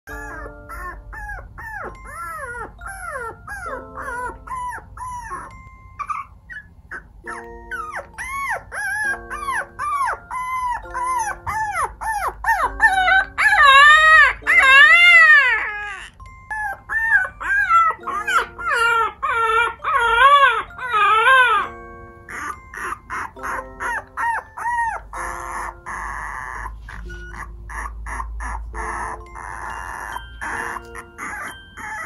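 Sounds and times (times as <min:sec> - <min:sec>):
puppy whining and yipping: 0:00.1 - 0:32.0
soft background music: 0:00.1 - 0:32.0.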